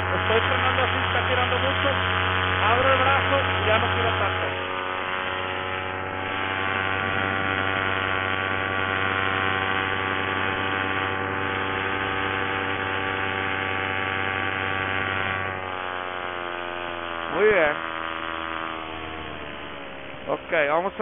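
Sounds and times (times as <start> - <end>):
paramotor engine droning: 0.0 - 21.0.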